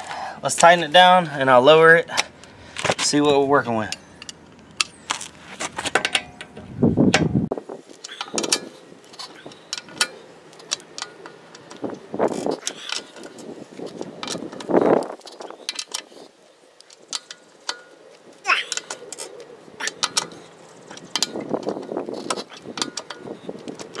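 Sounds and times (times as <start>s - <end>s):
metal tools clinking on lug nuts: 0.5s - 6.7s, 7.9s - 24.0s.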